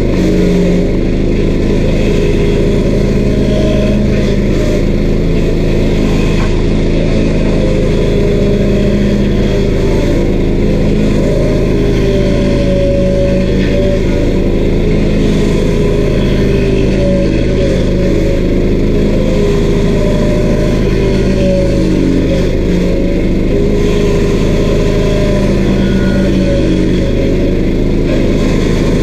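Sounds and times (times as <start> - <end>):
stump grinder engine running: 0.0 - 29.0.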